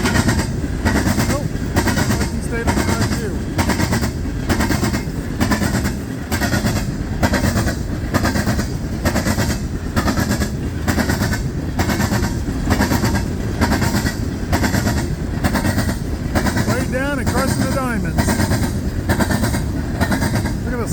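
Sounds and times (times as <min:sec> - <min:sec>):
train rumble: 0:00.0 - 0:20.9
train wheels clacking on track: 0:00.0 - 0:20.9.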